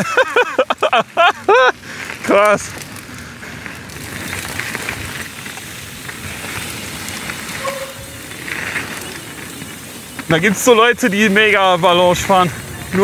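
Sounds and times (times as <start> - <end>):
bike ticks and rattles: 0.0 - 13.0.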